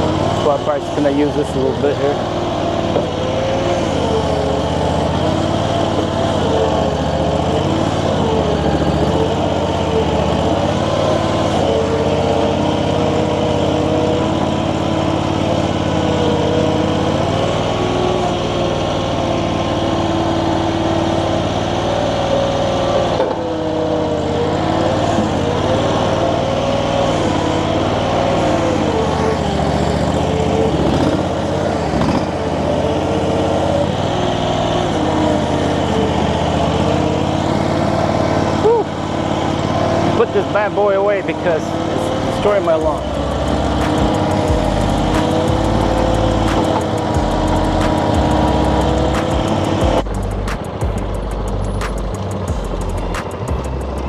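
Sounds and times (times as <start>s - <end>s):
skid steer engine under load: 0.0s - 54.0s.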